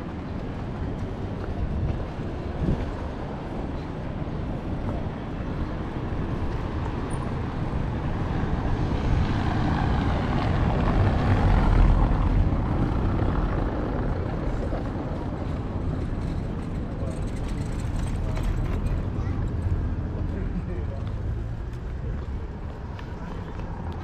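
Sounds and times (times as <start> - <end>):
van tyres rumbling over cobblestones: 0.0 - 24.0.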